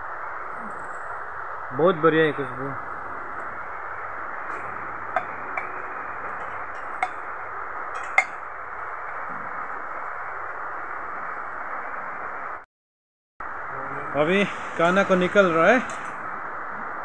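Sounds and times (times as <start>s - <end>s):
steady hiss: 0.0s - 12.6s, 13.4s - 17.0s.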